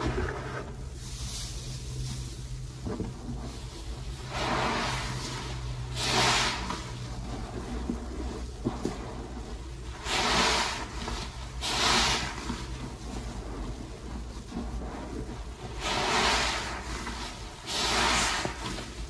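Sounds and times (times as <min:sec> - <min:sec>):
sponge squelching in suds: 0:00.0 - 0:19.0
steady low hum: 0:00.0 - 0:19.0.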